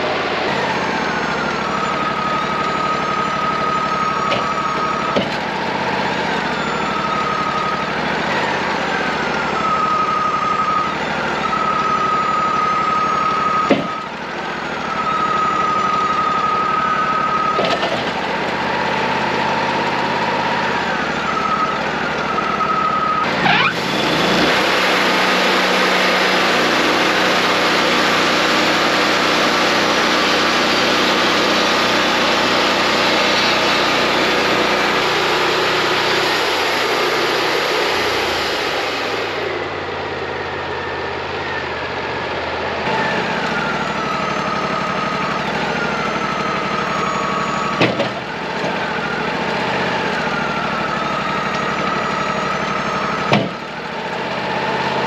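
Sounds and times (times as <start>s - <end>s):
band sawmill whining: 0.0s - 55.0s
engine revving: 0.0s - 55.0s.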